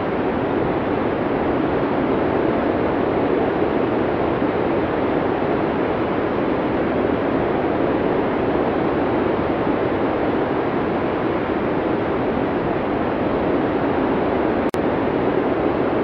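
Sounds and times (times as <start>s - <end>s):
blizzard wind blowing: 0.0s - 16.0s.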